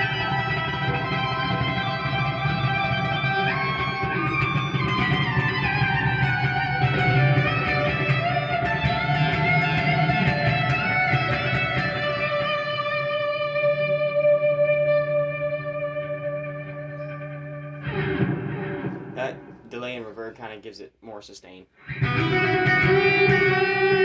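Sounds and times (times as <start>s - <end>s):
electric guitar lead with delay: 0.0s - 19.6s, 21.9s - 24.0s.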